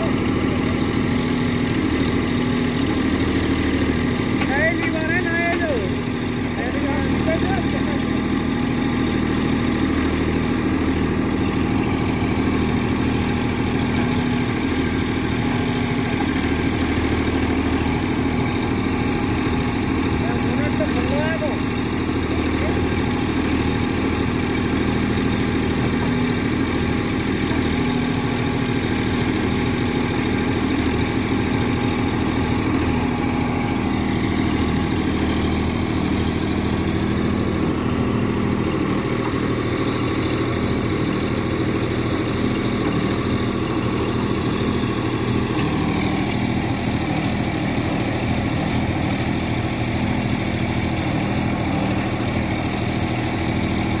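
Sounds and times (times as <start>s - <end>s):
backhoe digging soil: 0.0s - 54.0s
tractor diesel engine running: 0.0s - 54.0s.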